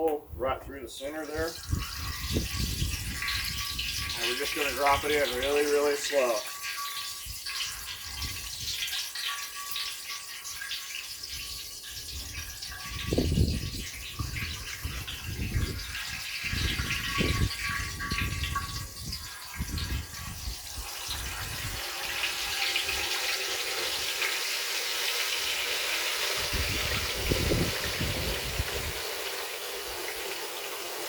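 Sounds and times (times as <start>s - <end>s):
frying oil bubbling and sizzling: 1.2s - 31.0s.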